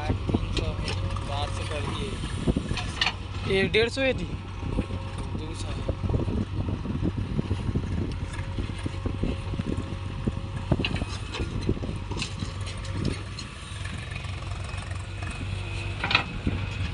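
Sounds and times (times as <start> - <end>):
diesel engine running: 0.0 - 16.9.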